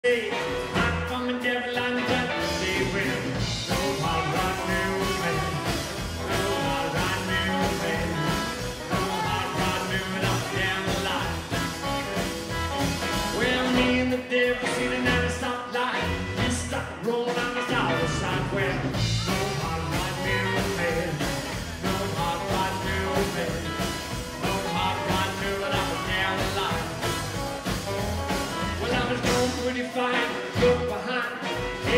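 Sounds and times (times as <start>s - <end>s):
rockabilly band playing: 0.0s - 31.9s.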